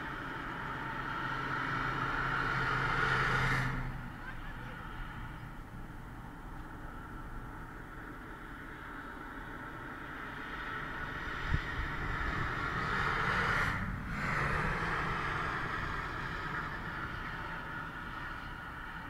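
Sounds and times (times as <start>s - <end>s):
car passing on expressway: 0.0s - 19.0s.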